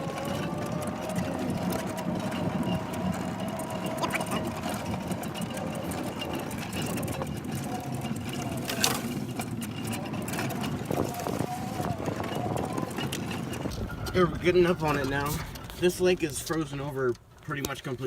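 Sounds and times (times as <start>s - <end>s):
golf cart motor humming: 0.0s - 18.0s.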